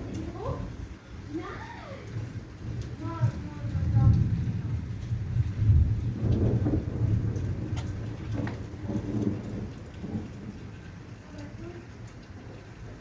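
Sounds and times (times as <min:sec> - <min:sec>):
steady rain: 0:00.0 - 0:13.0
thunder rumbling: 0:00.0 - 0:13.0.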